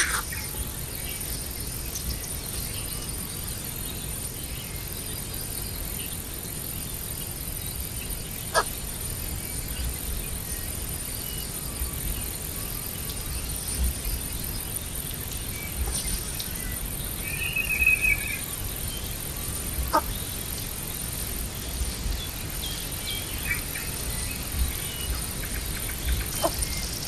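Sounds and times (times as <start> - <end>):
high-pitched insect drone: 0.0 - 27.0.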